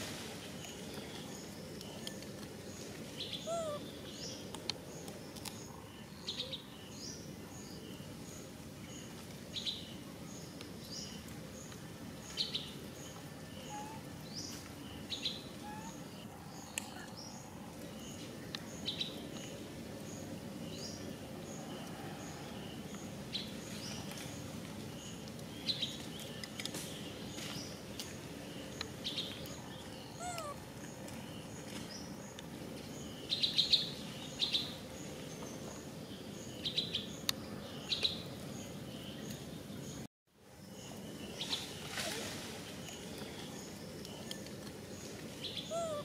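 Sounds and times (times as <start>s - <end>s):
low background noise: 0.0s - 46.0s
birds chirping: 0.6s - 46.0s.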